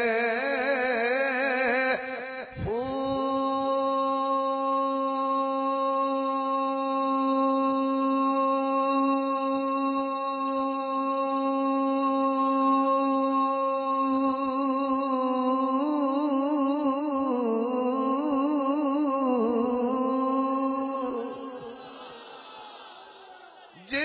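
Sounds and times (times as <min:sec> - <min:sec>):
man singing long note: 0:00.0 - 0:22.0.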